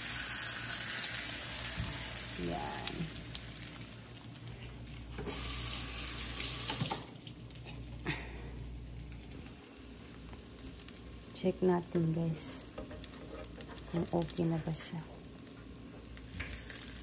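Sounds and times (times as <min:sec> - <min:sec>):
toast sizzling in frying pan: 0:00.0 - 0:17.0.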